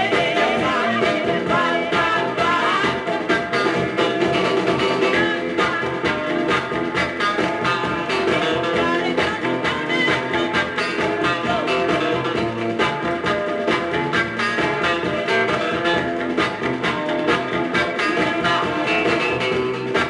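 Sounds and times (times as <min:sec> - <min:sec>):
rock and roll song with guitar: 0:00.0 - 0:20.0.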